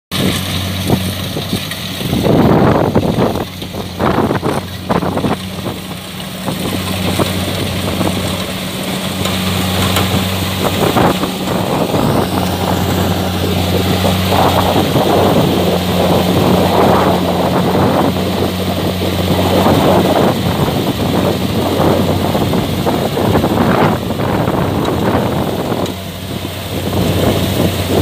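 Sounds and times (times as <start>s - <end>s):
bursts of rushing noise: 0.1s - 28.0s
diesel engine running: 0.1s - 28.0s.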